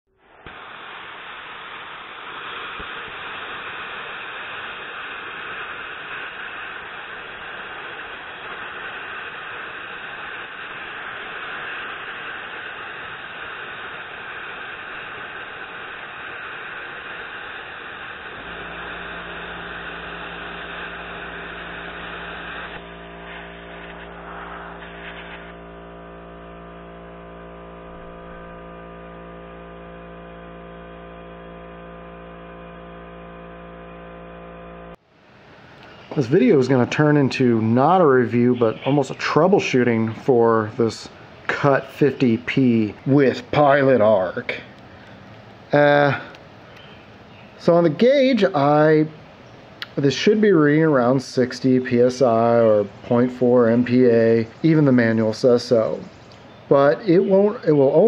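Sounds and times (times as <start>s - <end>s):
machine hum: 0.2s - 58.0s
plasma cutter hissing: 0.3s - 34.3s, 35.6s - 44.8s, 45.7s - 46.4s, 49.8s - 56.1s.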